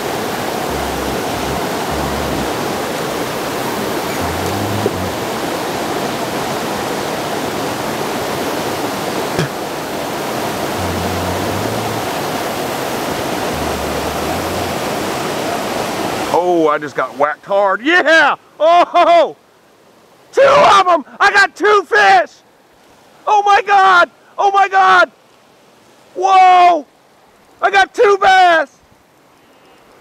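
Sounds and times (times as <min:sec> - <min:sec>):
water rushing over spillway: 0:00.0 - 0:30.0.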